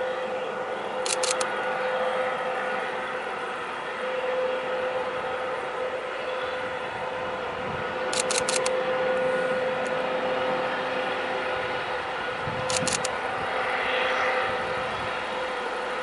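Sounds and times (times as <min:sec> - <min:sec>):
freight train rolling: 0:00.0 - 0:16.0.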